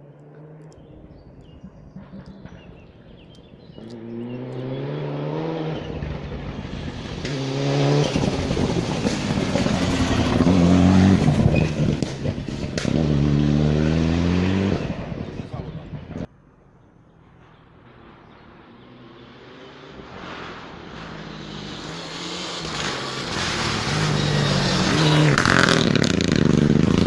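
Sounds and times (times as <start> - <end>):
rally car engine passing: 0.0 - 16.3, 17.5 - 27.0.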